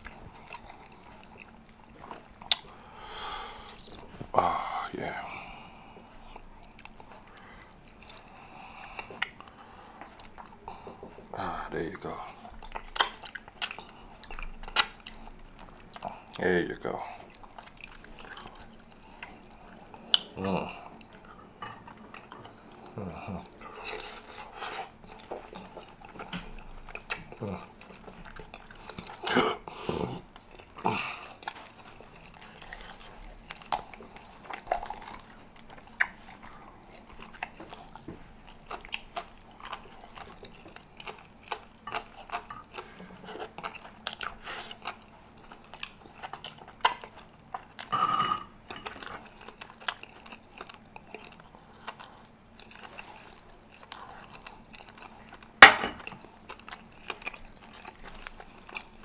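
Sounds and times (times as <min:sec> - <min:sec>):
close chewing and mouth clicks: 0:00.0 - 0:47.9, 0:48.6 - 0:59.0.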